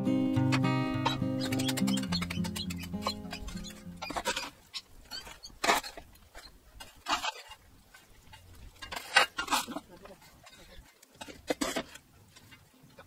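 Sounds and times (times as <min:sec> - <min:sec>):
shovel scraping coals on steel: 0:00.5 - 0:12.6.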